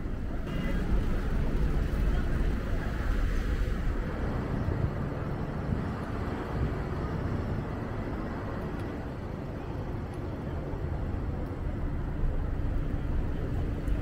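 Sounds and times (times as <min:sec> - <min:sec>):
vehicle traffic rumble: 0:00.0 - 0:14.0.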